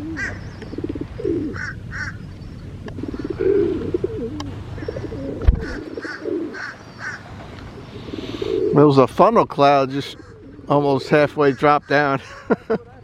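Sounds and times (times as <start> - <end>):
pigeons cooing: 0.0 - 9.0, 9.7 - 12.1.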